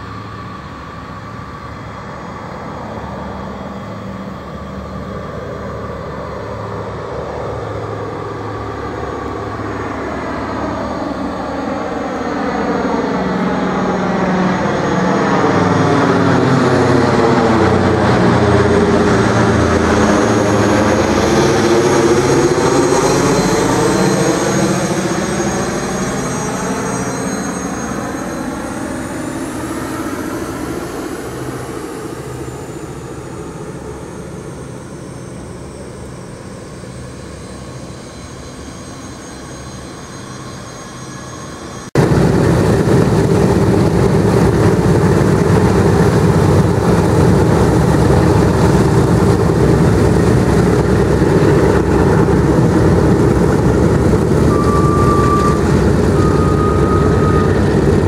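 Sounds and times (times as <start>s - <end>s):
aircraft engines droning overhead: 0.0s - 58.0s
bomber engines running on ground: 0.0s - 58.0s.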